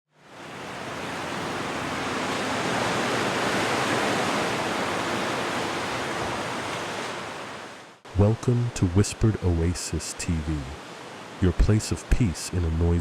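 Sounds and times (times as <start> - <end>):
ocean waves washing: 0.2 - 13.0.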